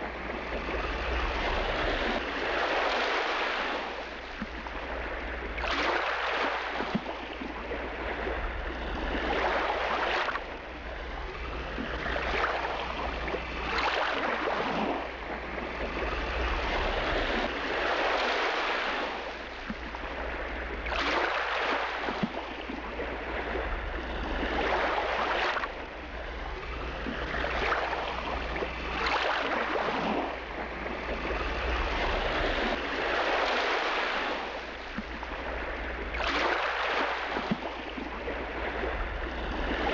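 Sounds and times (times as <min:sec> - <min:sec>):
water splashing along boat hull: 0:00.0 - 0:39.9.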